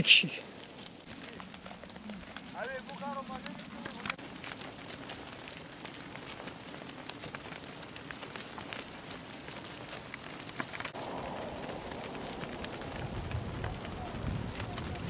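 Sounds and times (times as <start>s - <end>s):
hooves on stony ground: 0.0s - 15.0s.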